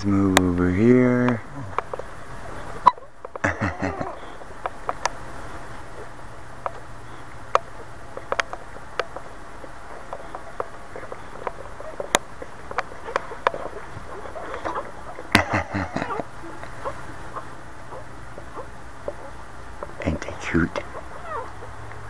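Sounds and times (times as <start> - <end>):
puppies squeaking: 2.3 - 5.1, 5.7 - 20.0, 20.8 - 21.9.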